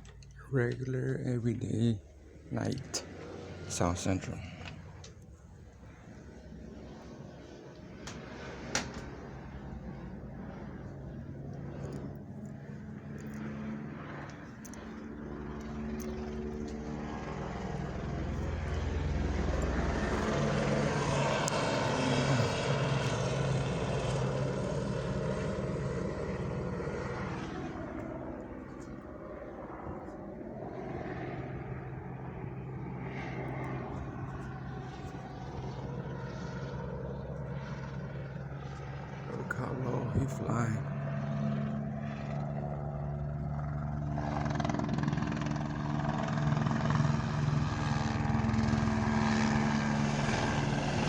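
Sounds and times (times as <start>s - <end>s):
helicopter flying overhead: 0.0s - 51.0s.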